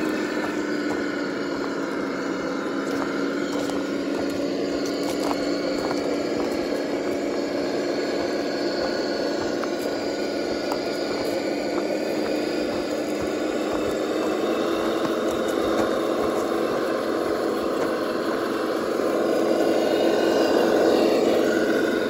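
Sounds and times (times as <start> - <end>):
rc car motor hum: 0.0 - 22.0
tyres crunching on gravel: 0.0 - 22.0.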